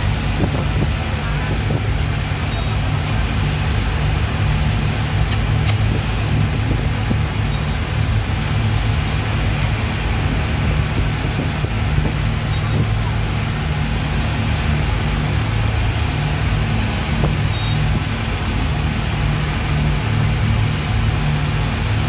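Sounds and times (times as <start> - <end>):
outboard engines droning: 0.0 - 22.0.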